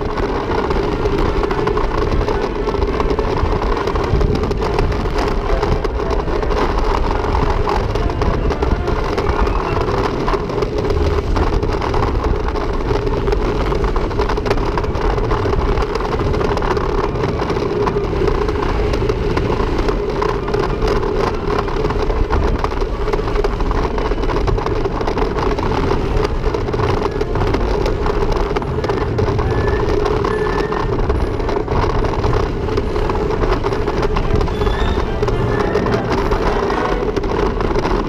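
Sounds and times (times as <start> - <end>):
roller coaster wheels rumbling: 0.0 - 38.0
wind on microphone: 0.0 - 38.0.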